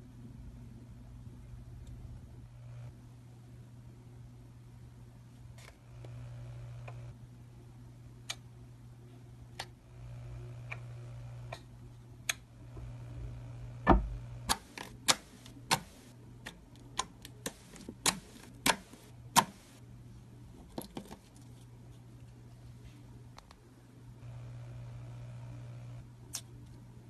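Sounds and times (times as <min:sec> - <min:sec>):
steady low hum: 0:00.0 - 0:20.7, 0:21.3 - 0:27.0.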